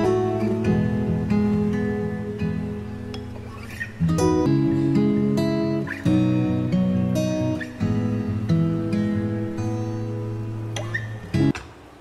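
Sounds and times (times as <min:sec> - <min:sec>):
acoustic guitar chords: 0:00.0 - 0:11.5.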